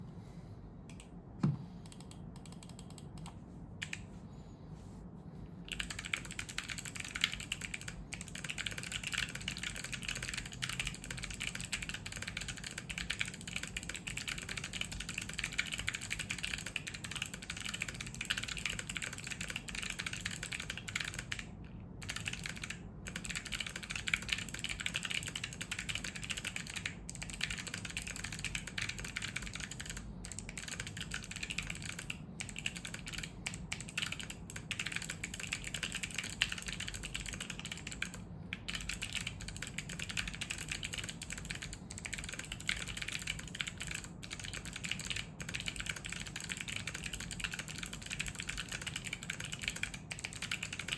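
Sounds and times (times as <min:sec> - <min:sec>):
mechanical keyboard typing: 0:01.9 - 0:04.0, 0:05.7 - 0:50.9.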